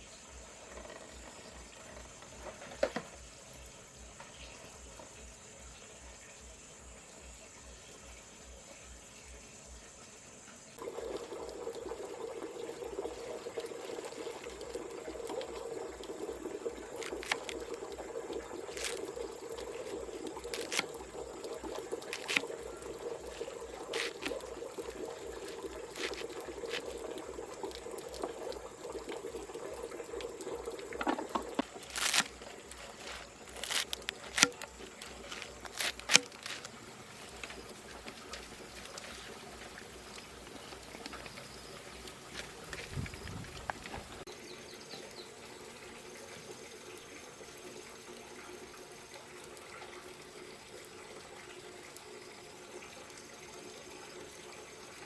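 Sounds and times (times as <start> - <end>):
water running from a pipe: 0.0 - 55.0.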